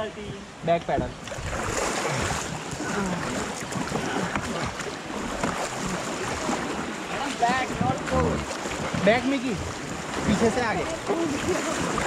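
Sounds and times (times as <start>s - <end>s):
river water rushing and splashing: 0.0s - 12.0s.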